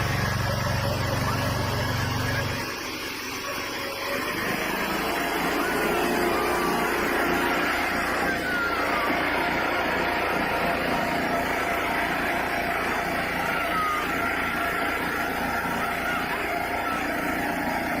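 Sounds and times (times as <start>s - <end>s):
engine-driven machine running: 0.0s - 18.0s.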